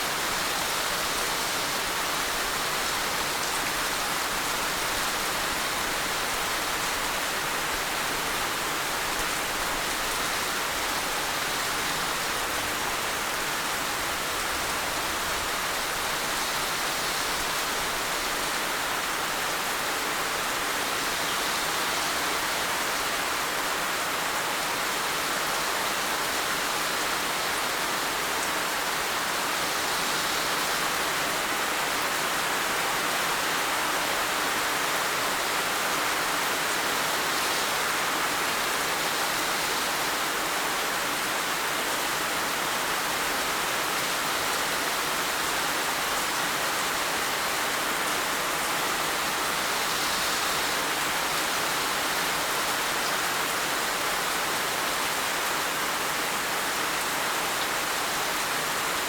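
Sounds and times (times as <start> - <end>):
heavy rain downpour: 0.0 - 59.0.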